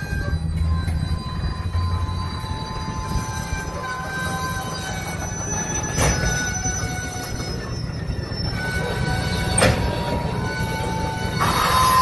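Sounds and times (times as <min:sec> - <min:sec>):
high squealing tones: 0:00.0 - 0:12.0
wheels rumbling on rail: 0:00.0 - 0:12.0.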